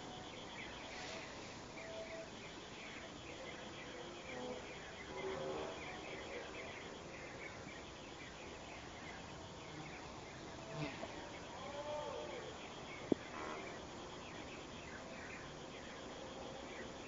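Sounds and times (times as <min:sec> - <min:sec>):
high insect trill: 0:00.0 - 0:17.0.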